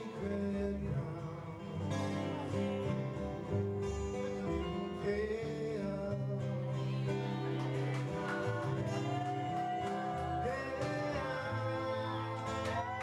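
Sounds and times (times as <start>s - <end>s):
man singing: 0.0s - 2.8s, 3.5s - 7.1s, 8.2s - 13.0s
acoustic guitar: 0.0s - 13.0s.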